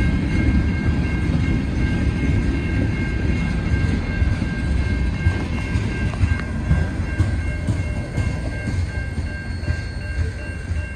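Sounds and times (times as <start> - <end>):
crossing signal bell ringing: 0.0 - 10.9
train wheels rumbling on rails: 0.0 - 10.9.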